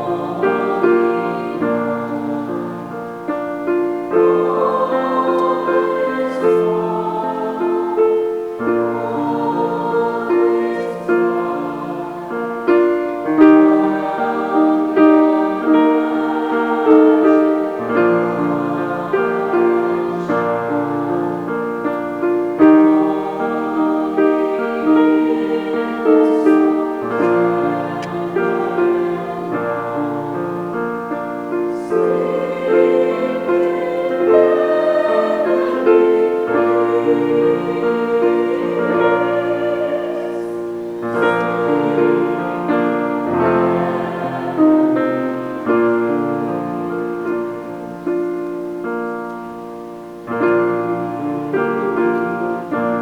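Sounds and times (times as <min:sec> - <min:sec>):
choir singing: 0:00.0 - 0:53.0
piano accompaniment: 0:00.0 - 0:53.0.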